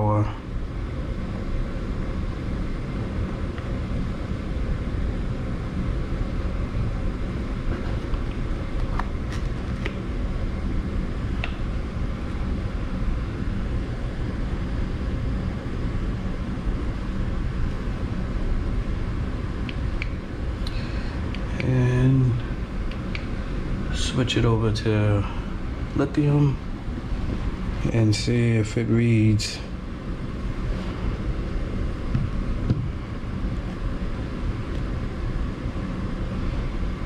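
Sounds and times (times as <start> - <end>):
low rumbling background noise: 0.0 - 37.0.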